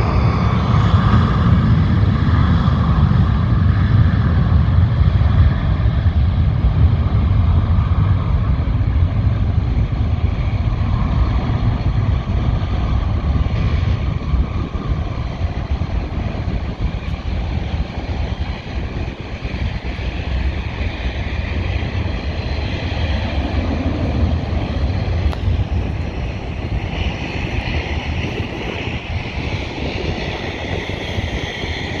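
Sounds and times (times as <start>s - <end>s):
high engine whine: 0.0s - 32.0s
jet engines rumbling: 0.0s - 32.0s.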